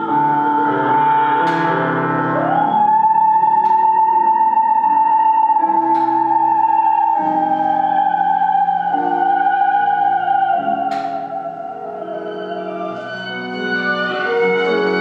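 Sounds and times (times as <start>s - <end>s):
slow music with held high note: 0.0s - 15.0s.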